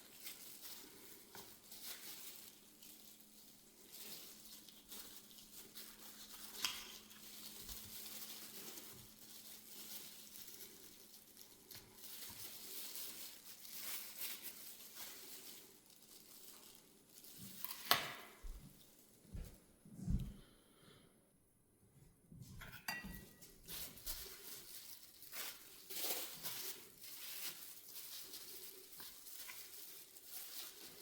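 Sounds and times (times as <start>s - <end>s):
crinkling and rustling: 0.0s - 20.6s, 22.3s - 31.0s.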